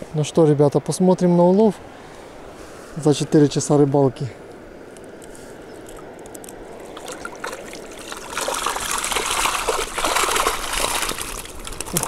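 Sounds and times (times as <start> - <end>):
water streaming and splashing: 0.0 - 12.0.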